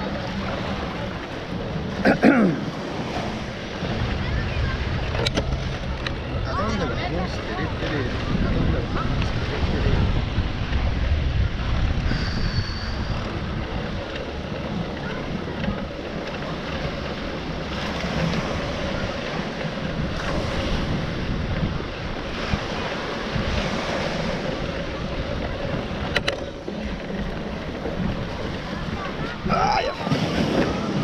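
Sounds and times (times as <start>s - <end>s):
small waves washing on sand: 0.0s - 31.0s
wind on microphone: 2.6s - 31.0s.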